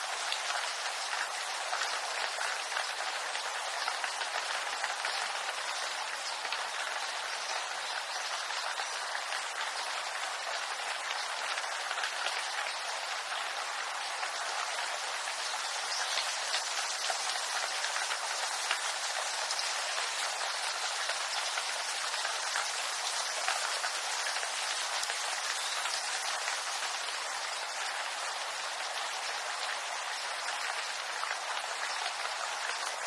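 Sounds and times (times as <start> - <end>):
rain pattering on leaves: 0.0 - 33.0.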